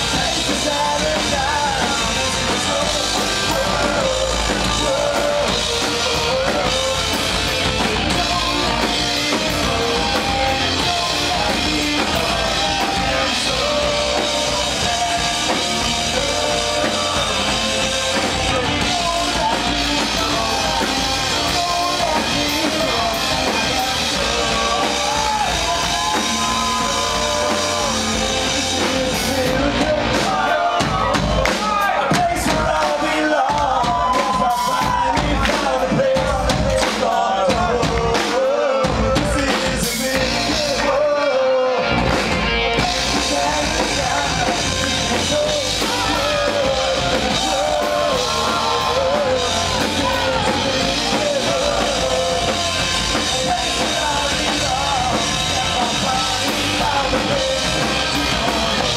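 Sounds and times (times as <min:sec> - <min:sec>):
bass guitar: 0:00.0 - 0:58.9
drum kit: 0:00.0 - 0:58.9
electric guitars: 0:00.0 - 0:58.9
male singer: 0:00.0 - 0:58.9.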